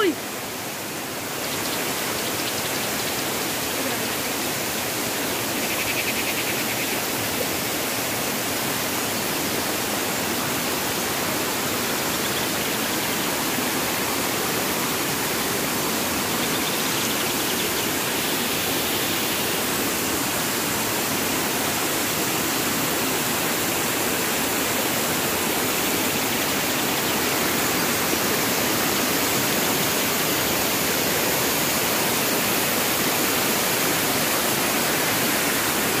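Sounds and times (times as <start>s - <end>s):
waterfall pouring over rocks: 0.0s - 36.0s.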